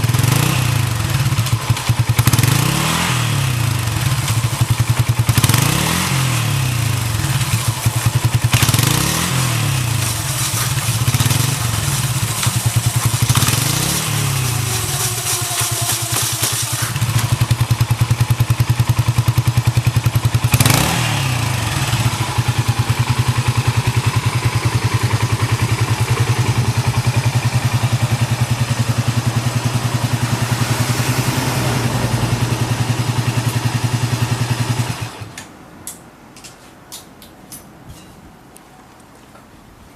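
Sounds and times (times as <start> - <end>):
motorcycle engine idling: 0.0 - 35.4.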